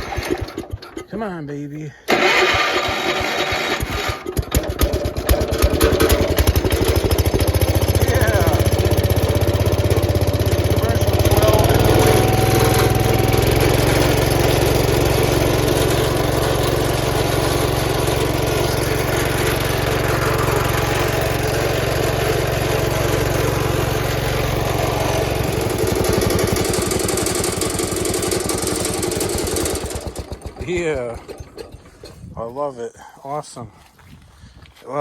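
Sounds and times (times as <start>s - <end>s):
tractor engine running: 0.0s - 1.3s, 2.1s - 32.7s.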